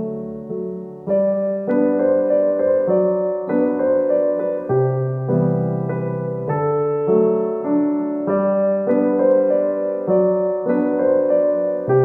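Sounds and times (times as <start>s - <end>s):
slow instrumental music chords: 0.0s - 12.0s.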